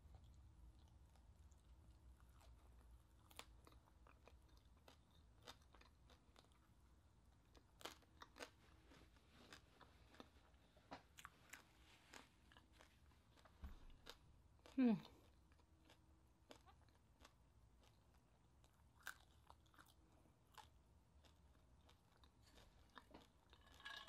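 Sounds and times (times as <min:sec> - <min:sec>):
person chewing crispy skin: 0:00.1 - 0:24.0.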